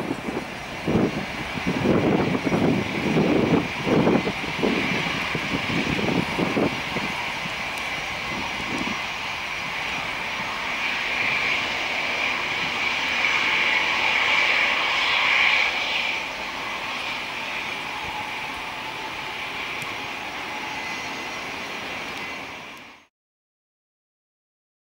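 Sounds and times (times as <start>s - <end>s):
jet engine roar with whining hiss: 0.0s - 23.1s.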